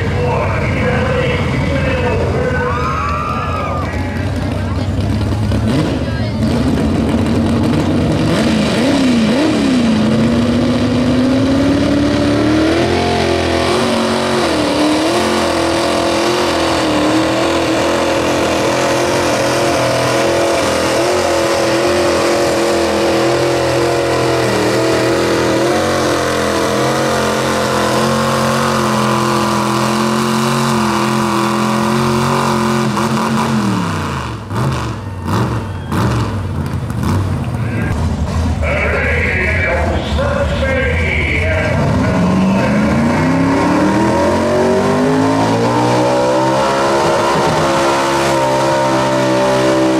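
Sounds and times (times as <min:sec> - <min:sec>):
truck engine at full throttle: 0:00.0 - 0:49.9.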